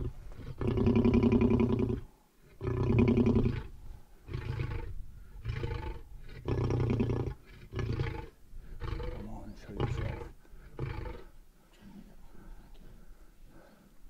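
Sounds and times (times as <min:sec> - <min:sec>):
lion growling and roaring: 0:00.0 - 0:11.4.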